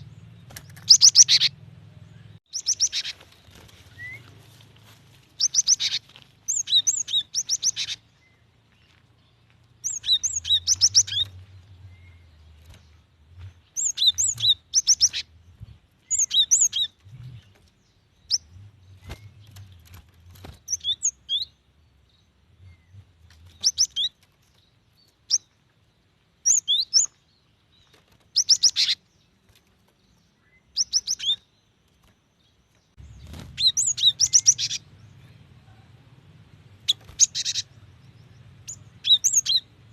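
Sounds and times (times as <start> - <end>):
bird chirping calls: 0.0 - 39.9.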